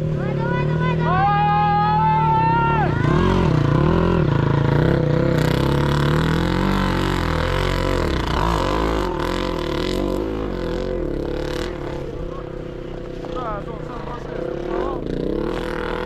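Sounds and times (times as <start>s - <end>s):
motocross motorcycle engines revving: 0.0s - 16.0s.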